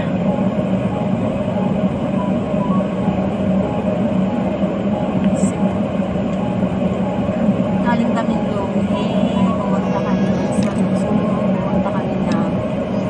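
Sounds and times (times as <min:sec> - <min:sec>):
vehicle rumble from inside: 0:00.0 - 0:13.0.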